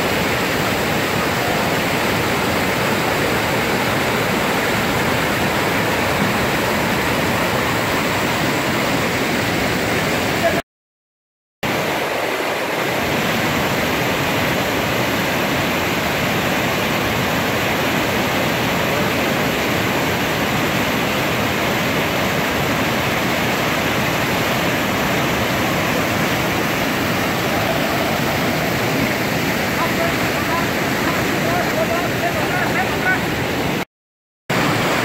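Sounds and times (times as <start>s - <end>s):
whitewater rushing over boulders: 0.0s - 10.6s, 11.7s - 33.9s, 34.5s - 35.0s.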